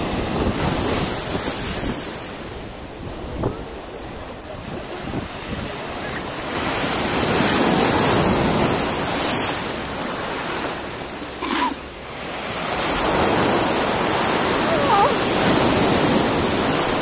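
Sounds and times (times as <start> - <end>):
waves breaking on sand: 0.0 - 17.0.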